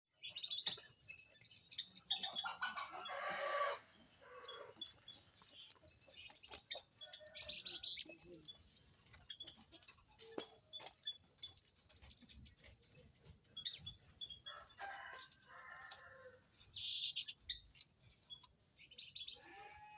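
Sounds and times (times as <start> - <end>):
birds chirping: 0.1 - 19.9.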